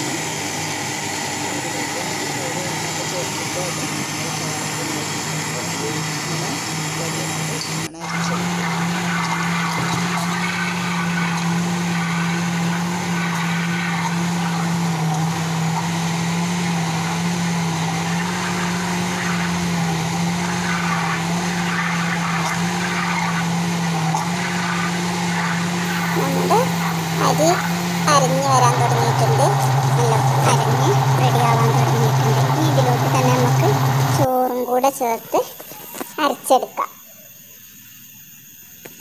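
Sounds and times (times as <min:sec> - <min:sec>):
mixer grinder motor hum: 0:00.0 - 0:36.2.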